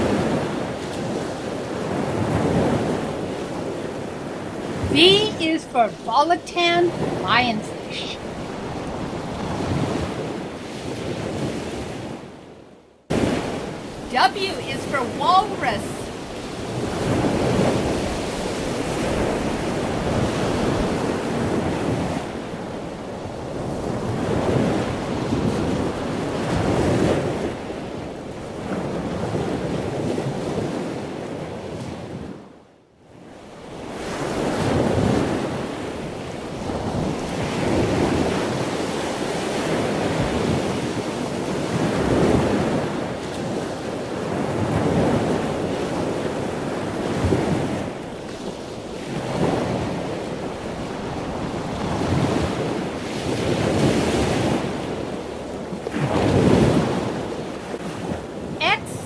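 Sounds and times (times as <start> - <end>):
ocean waves rushing: 0.0 - 12.4, 13.1 - 31.2, 33.6 - 59.0.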